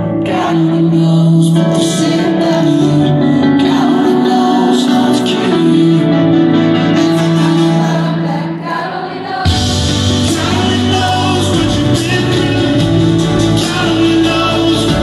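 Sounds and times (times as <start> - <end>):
live band playing with singing: 0.0 - 15.0.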